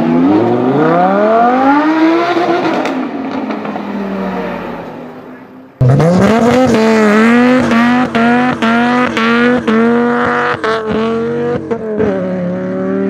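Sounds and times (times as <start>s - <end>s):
engine running at high revs: 0.0s - 13.0s.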